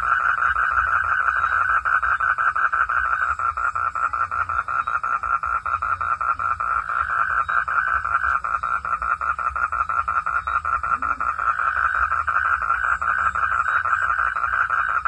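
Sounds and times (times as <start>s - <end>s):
frogs calling in chorus: 0.0s - 15.0s.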